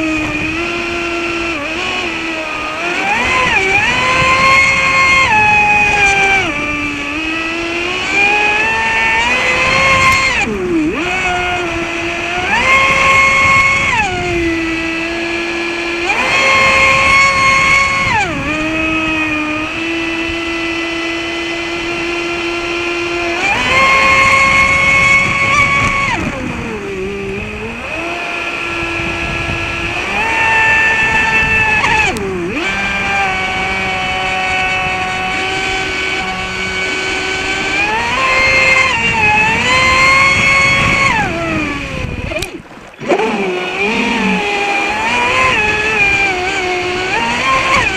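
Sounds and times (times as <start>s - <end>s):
electric boat motor whining: 0.0s - 47.9s.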